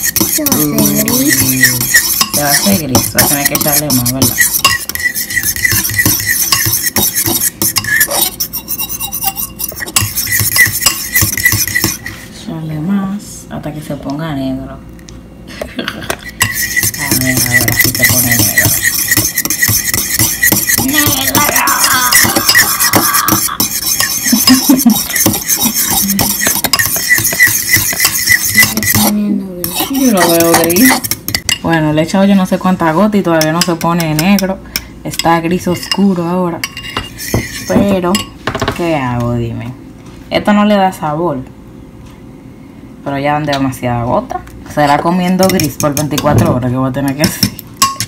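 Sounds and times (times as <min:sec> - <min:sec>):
fork stirring batter in a bowl: 0:00.0 - 0:12.4, 0:16.0 - 0:38.9, 0:44.8 - 0:48.0.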